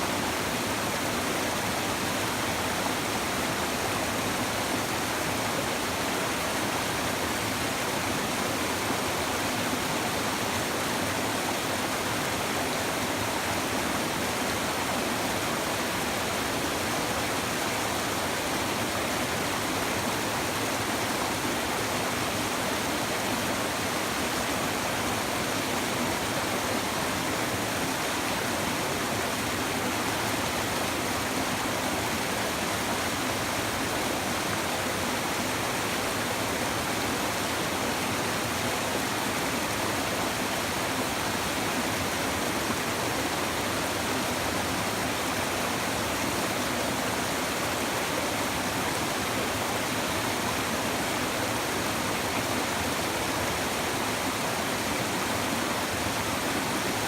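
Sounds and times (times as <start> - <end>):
river babbling over stones: 0.0 - 57.0.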